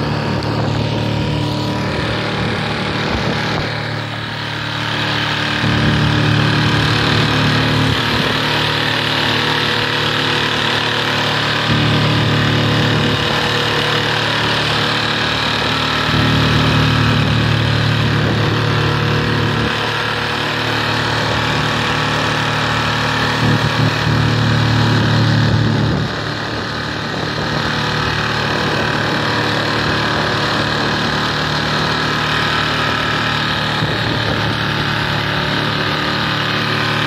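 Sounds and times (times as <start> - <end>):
boat wake hissing: 0.0 - 37.0
outboard motor running: 0.0 - 37.0
wind: 0.0 - 37.0.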